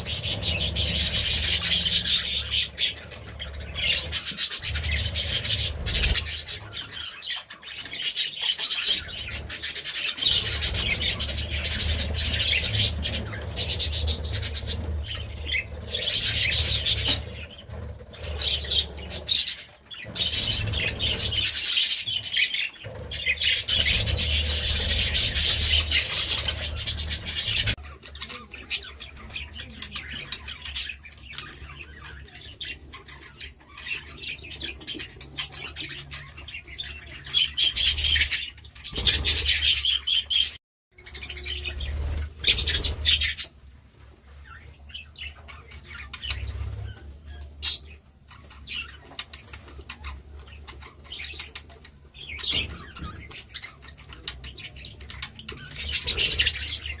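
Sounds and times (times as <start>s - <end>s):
budgerigars chattering: 0.0s - 43.5s, 44.5s - 57.0s.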